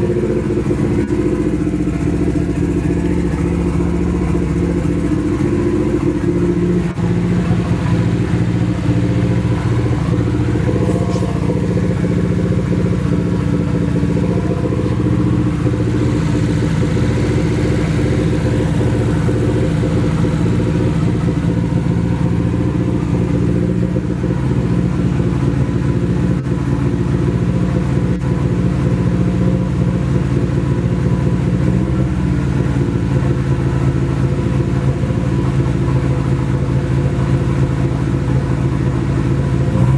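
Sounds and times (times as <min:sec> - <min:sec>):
turbo engine running and misfiring: 0:00.0 - 0:39.9.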